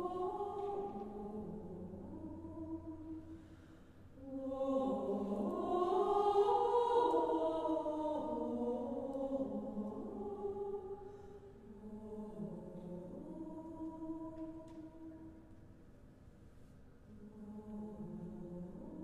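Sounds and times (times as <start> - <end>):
choir singing sustained chords: 0.0 - 15.8, 17.0 - 19.0.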